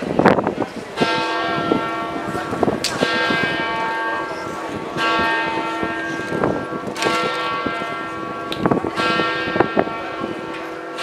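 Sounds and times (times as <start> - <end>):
church bell tolling: 0.9 - 11.0.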